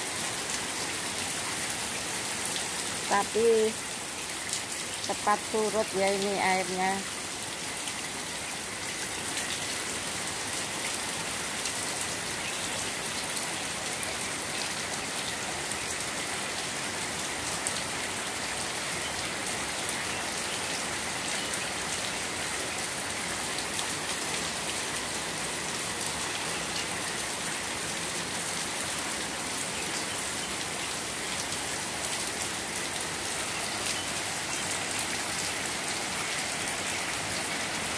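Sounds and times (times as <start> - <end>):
heavy rain splashing into water: 0.0 - 37.9.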